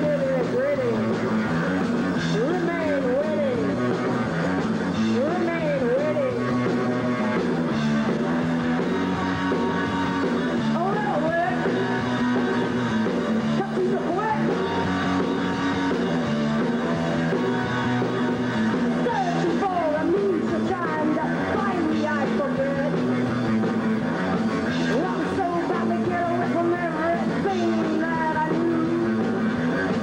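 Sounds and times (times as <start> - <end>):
punk rock band playing: 0.0 - 30.0.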